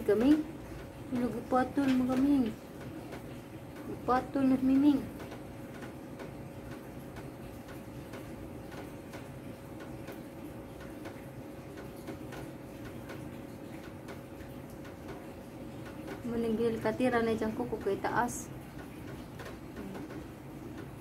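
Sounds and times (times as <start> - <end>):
faint regular ticking: 0.0 - 21.0.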